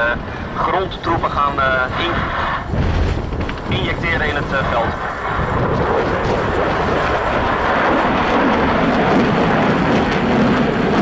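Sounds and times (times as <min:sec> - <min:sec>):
military aircraft engine noise: 0:00.0 - 0:11.0.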